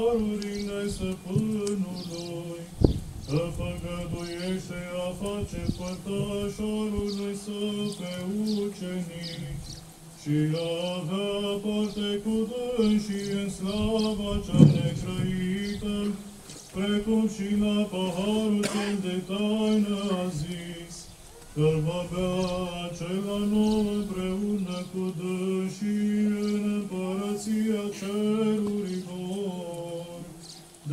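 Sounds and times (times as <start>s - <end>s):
men singing chant together: 0.0s - 2.7s, 3.3s - 30.9s.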